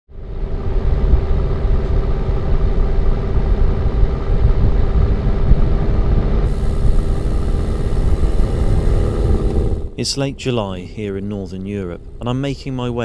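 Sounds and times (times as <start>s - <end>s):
car engine and road rumble: 0.6s - 13.0s.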